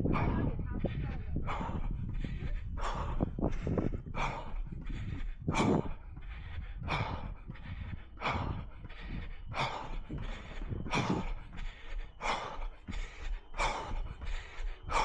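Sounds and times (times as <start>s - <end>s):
runner breathing hard: 0.0s - 15.0s.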